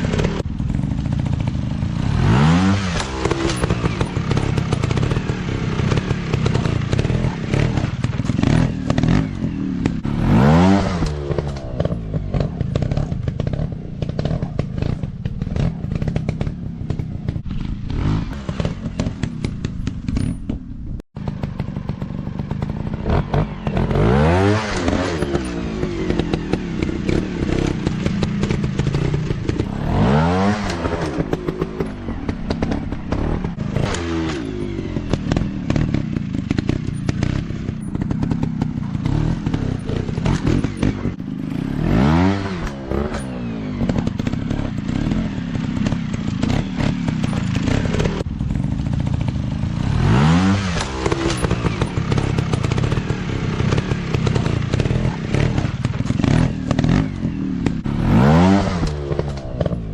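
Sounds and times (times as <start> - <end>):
clattering from bikes: 0.0 - 59.9
dirt bike engines revving: 0.0 - 59.9.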